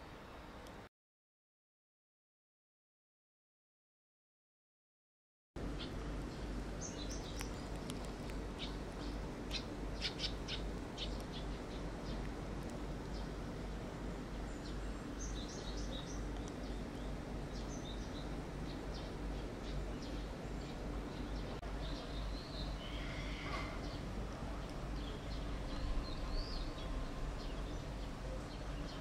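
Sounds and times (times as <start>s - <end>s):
low outdoor rumble: 5.6s - 29.0s
small birds chirping: 5.6s - 29.0s.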